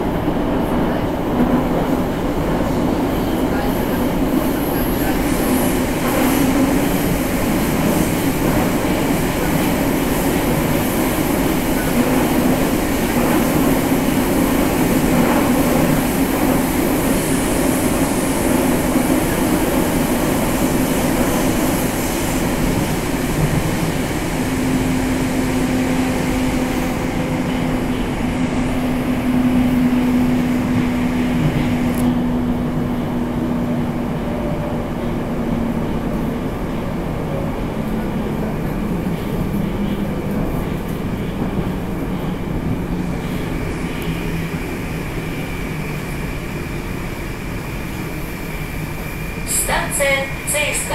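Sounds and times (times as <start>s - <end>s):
train wheels rumbling in tunnel: 0.0s - 50.9s.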